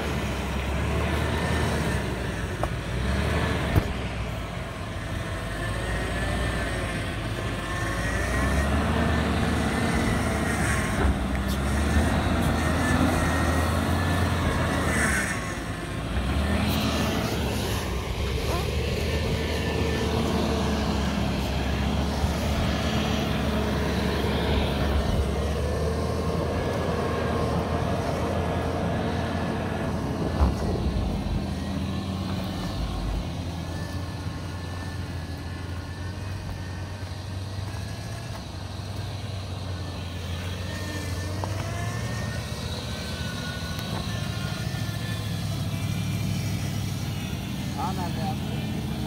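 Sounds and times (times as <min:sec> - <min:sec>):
suv engine running at low speed: 0:00.0 - 0:49.0.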